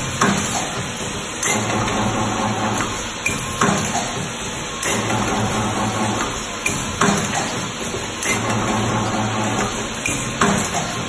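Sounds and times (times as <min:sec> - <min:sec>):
machine hiss and hum: 0:00.0 - 0:11.0.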